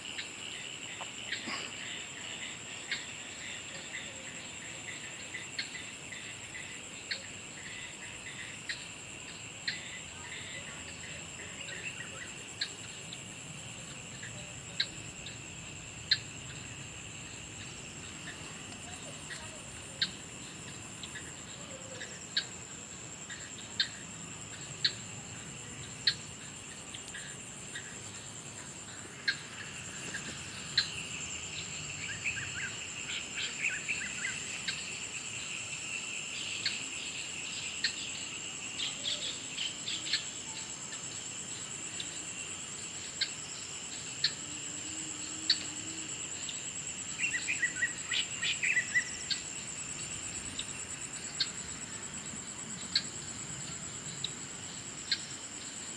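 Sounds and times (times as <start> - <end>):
insects pulsing trill: 0.0 - 55.9
lower insect drone: 0.0 - 55.9.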